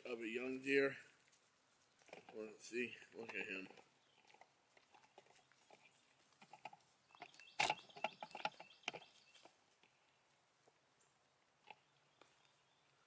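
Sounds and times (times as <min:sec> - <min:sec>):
deer crunching corn: 0:00.0 - 0:12.8.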